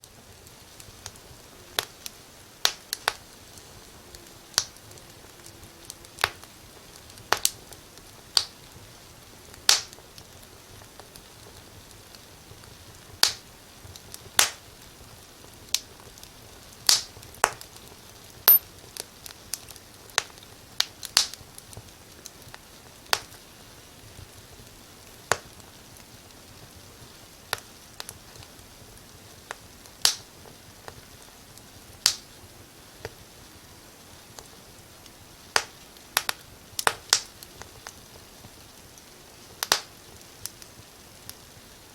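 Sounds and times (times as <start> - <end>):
faint steady hiss: 0.0 - 41.9
wood fire crackling: 0.0 - 41.9.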